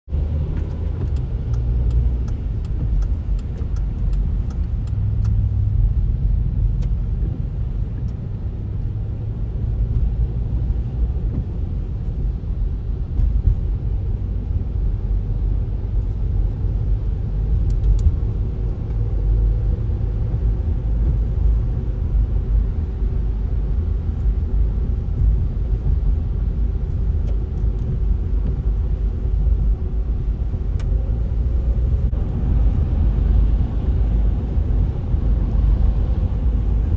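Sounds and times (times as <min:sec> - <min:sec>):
car tyre and road noise: 0:00.1 - 0:36.9.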